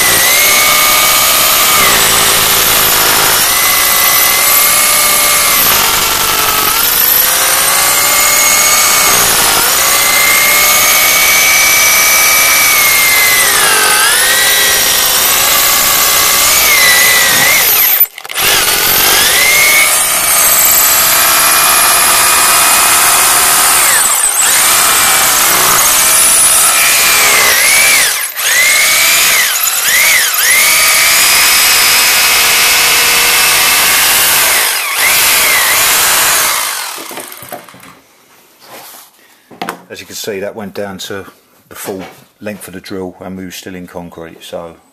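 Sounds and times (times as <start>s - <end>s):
hammer drill boring into concrete: 0.0s - 37.9s.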